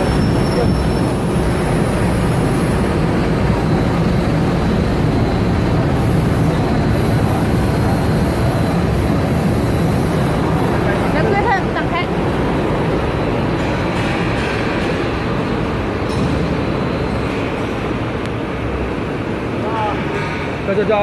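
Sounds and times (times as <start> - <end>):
loud steady machine noise: 0.0 - 21.0.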